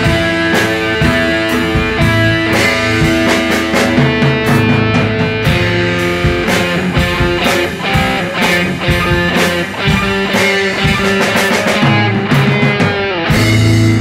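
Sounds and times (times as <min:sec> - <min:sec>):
drum hits: 0:00.0 - 0:14.0
electric guitar: 0:00.0 - 0:14.0.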